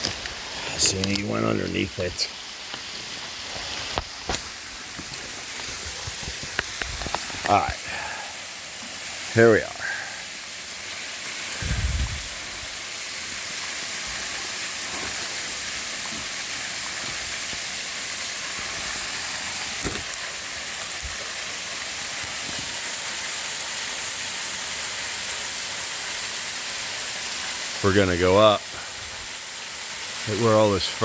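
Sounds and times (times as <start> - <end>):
waterfall pouring and splashing: 0.0 - 31.0.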